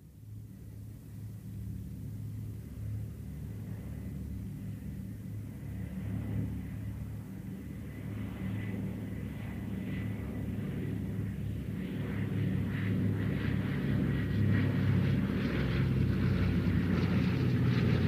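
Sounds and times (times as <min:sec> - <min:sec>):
propeller airplane engine drone: 0:00.0 - 0:18.0.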